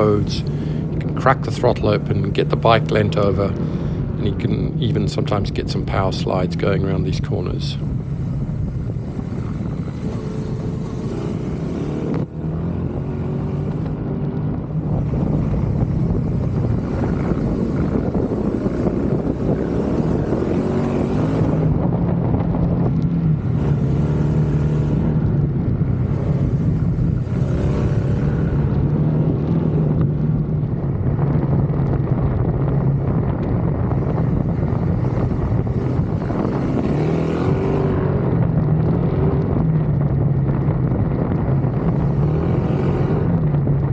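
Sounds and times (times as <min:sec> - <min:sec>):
motorcycle engine revving: 0:00.0 - 0:43.9
wind on microphone: 0:00.0 - 0:43.9.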